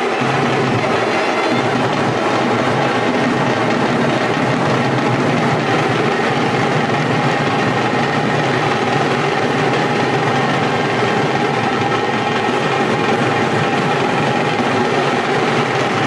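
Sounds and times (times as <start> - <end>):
large drums beaten with sticks: 0.0 - 16.0.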